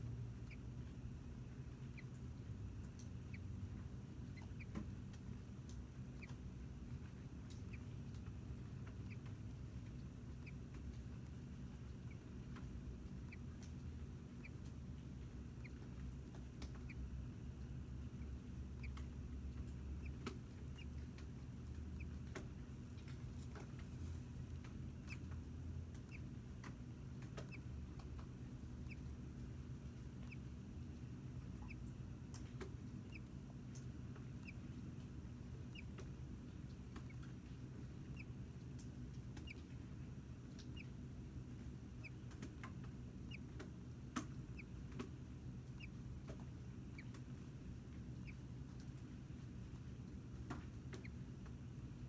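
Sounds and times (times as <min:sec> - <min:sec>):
faint steady hum: 0:00.0 - 0:52.0
small animal chirping: 0:00.4 - 0:00.8, 0:01.7 - 0:03.5, 0:04.1 - 0:39.8, 0:40.5 - 0:41.0, 0:41.6 - 0:49.0.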